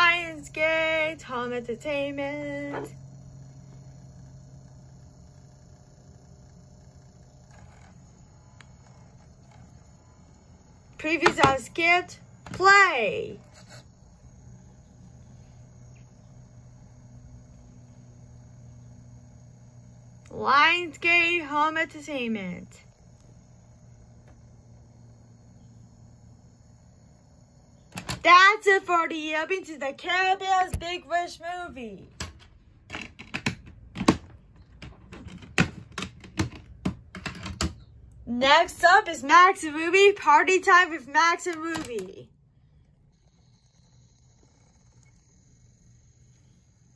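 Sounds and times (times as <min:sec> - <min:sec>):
thin high-pitched whine: 0:00.0 - 0:32.0, 0:38.8 - 0:46.9
low electrical hum: 0:00.0 - 0:46.9.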